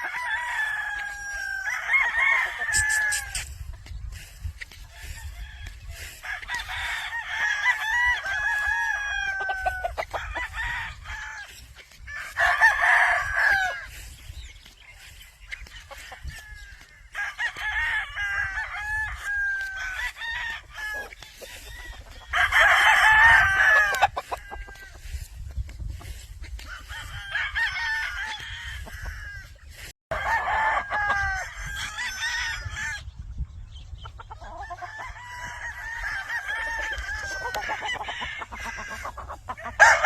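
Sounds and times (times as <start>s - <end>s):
roosters crowing: 0.0s - 33.2s, 34.1s - 40.0s.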